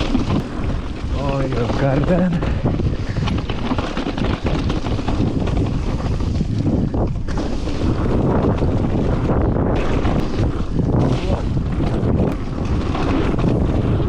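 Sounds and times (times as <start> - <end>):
bike rattling over rocks: 0.0 - 14.0
wind buffeting microphone: 0.0 - 14.0.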